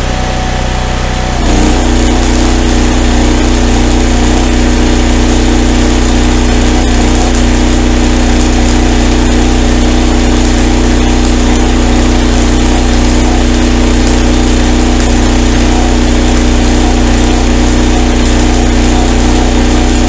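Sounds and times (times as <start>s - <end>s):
welder engine running: 0.0s - 20.0s
welding hiss: 1.4s - 20.0s.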